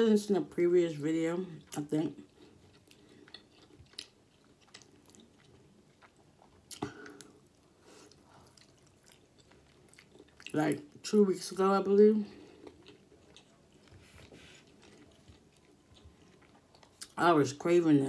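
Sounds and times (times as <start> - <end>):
person chewing pasta: 1.4 - 17.2.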